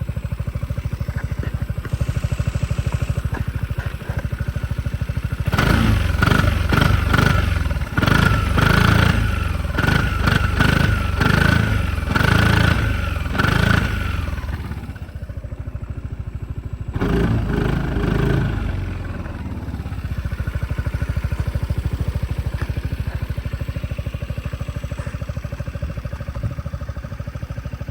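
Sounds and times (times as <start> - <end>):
scooter engine revving and idling: 0.0 - 27.9.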